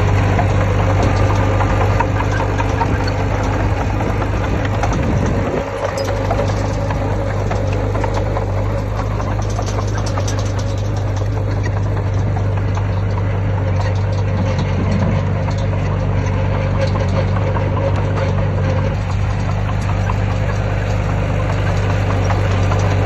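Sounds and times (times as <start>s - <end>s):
heavy diesel engine droning: 0.0s - 23.0s
machinery rattling: 0.0s - 23.0s.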